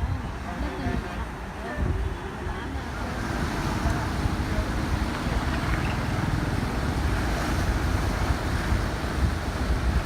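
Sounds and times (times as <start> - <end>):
floodwater rushing: 0.0 - 10.0
wind buffeting microphone: 0.0 - 10.0.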